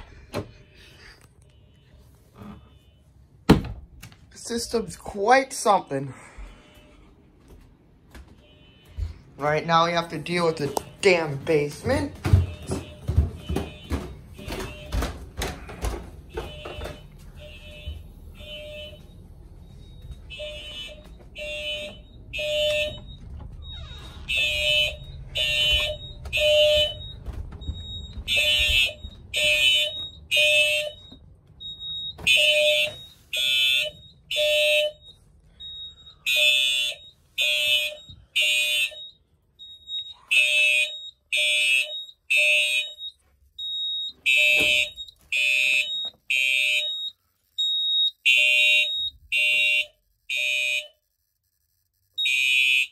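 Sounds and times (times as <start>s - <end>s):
fire alarm evacuation tone blasts: 8.3s - 52.9s.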